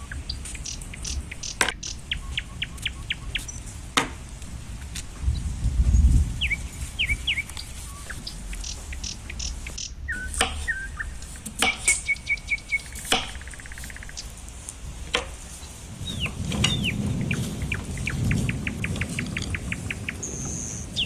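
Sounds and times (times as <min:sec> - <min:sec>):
low rustling noise: 0:00.0 - 0:21.0
small birds chirping: 0:00.0 - 0:21.0.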